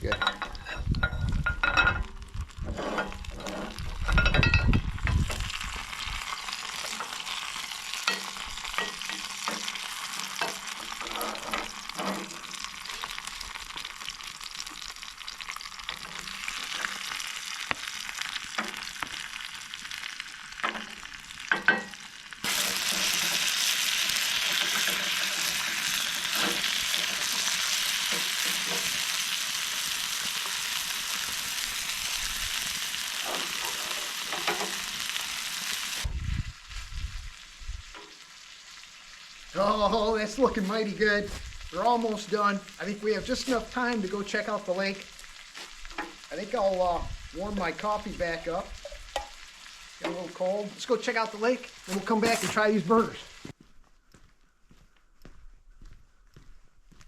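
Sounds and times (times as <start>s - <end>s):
burger patties sizzling in pans: 1.3s - 53.6s.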